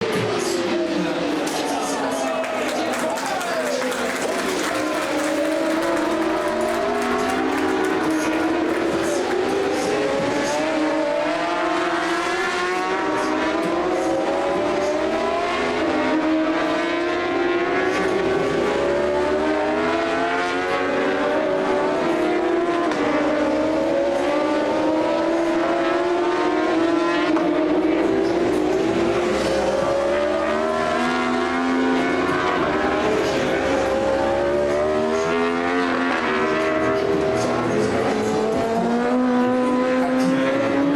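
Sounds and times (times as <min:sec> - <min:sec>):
racing motorcycles at full throttle: 0:00.0 - 0:02.9, 0:03.7 - 0:40.9.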